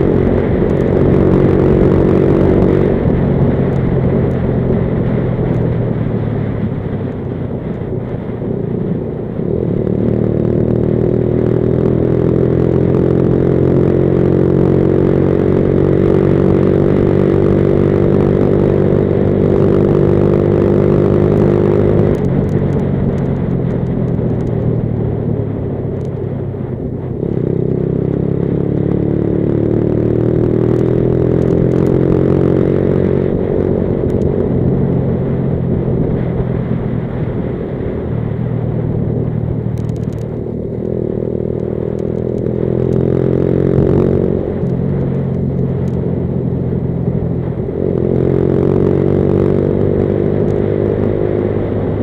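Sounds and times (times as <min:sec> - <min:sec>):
motorcycle engine revving: 0:00.0 - 0:52.0
road and wind noise: 0:00.0 - 0:52.0.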